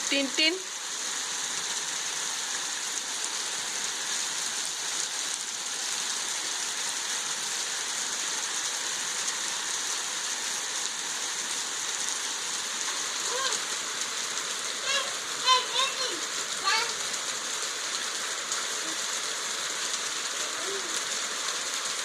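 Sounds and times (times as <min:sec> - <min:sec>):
hail falling: 0:00.1 - 0:22.0.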